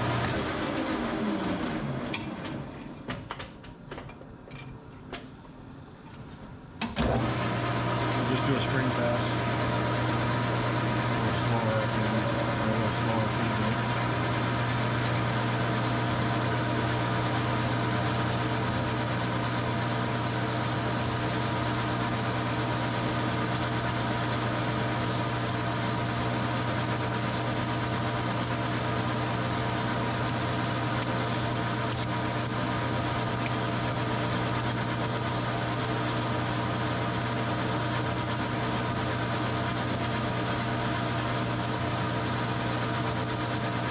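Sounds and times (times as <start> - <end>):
metal lathe humming: 0.0 - 2.2, 7.0 - 43.9.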